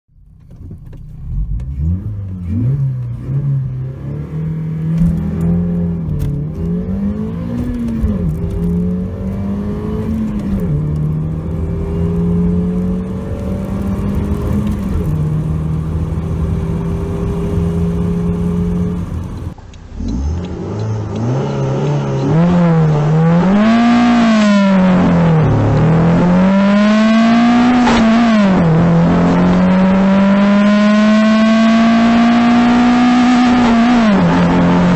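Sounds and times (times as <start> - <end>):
car engine accelerating through gears: 0.2 - 34.9.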